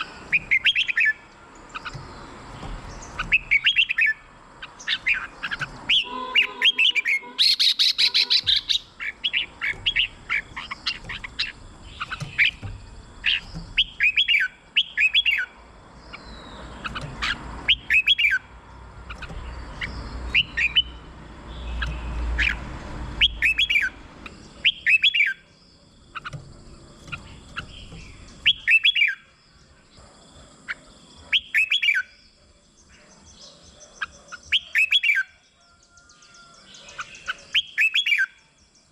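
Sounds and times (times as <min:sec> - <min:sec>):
bulbul singing: 0:00.0 - 0:38.9.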